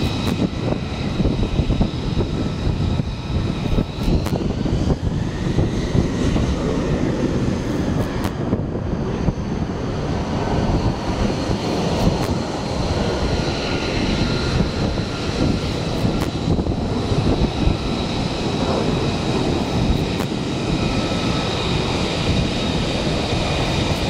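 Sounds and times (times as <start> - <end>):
jet engine rumble and whine: 0.0 - 24.0.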